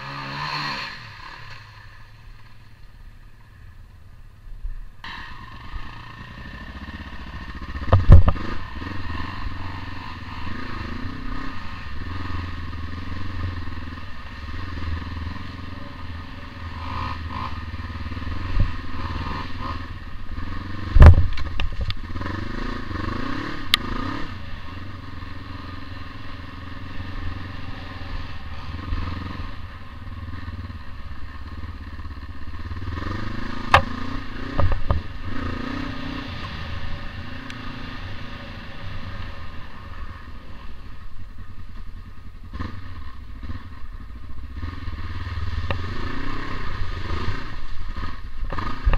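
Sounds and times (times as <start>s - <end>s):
motorcycle engine revving: 0.0s - 3.7s, 5.0s - 48.9s.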